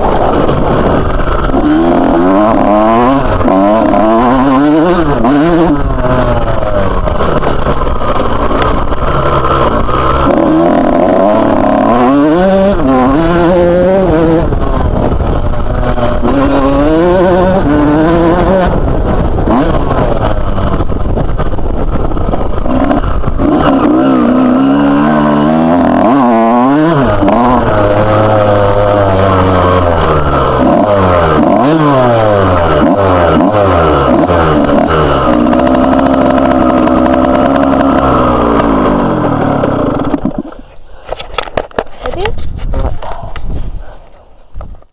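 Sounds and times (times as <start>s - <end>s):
motorbike engine revving: 0.0s - 43.2s.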